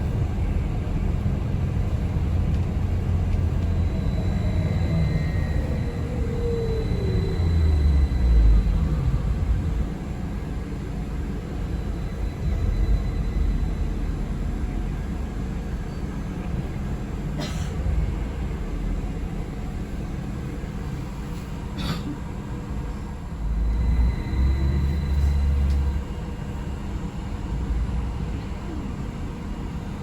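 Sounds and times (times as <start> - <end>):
bus cabin rumble: 0.0 - 30.0.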